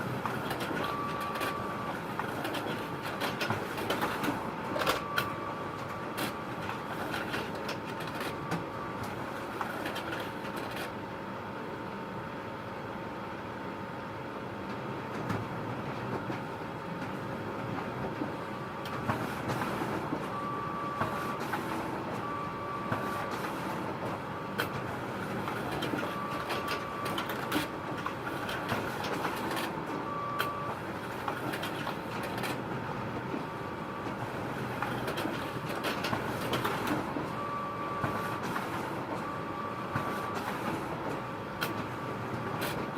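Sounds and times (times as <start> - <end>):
photocopier humming: 0.0 - 10.9, 18.4 - 42.9.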